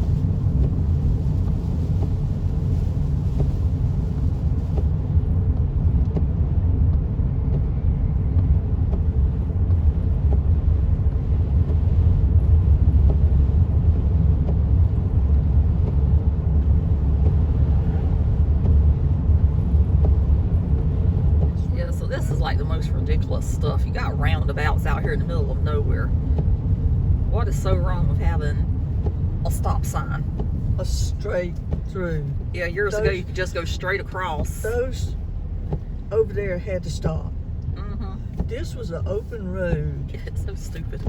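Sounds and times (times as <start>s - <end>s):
car cabin road rumble: 0.0s - 41.0s.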